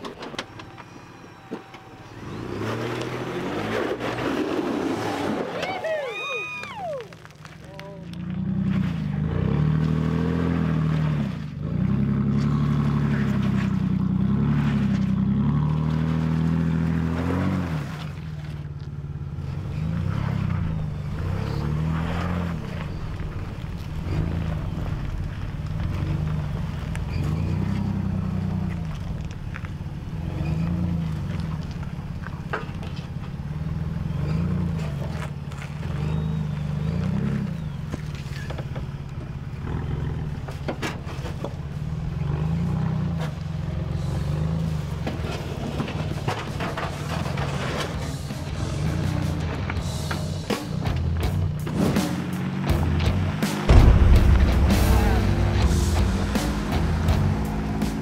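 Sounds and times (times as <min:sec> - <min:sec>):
engine revving: 0:02.0 - 0:05.6, 0:08.1 - 0:32.2, 0:33.5 - 0:38.5, 0:39.5 - 0:58.0.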